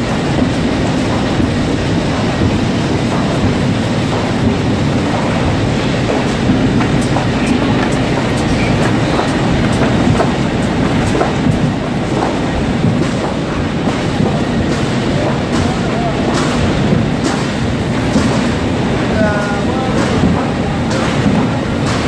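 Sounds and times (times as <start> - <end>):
clatter of board sheets feeding: 0.0 - 22.0
printing machine running: 0.0 - 22.0.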